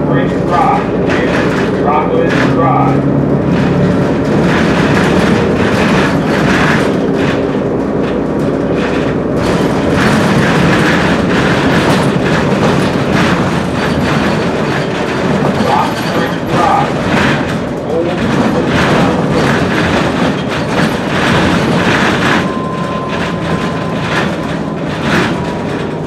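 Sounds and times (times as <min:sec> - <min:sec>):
bus engine running: 0:00.0 - 0:26.0
road noise: 0:00.0 - 0:26.0
body rattles and knocks: 0:00.1 - 0:26.0.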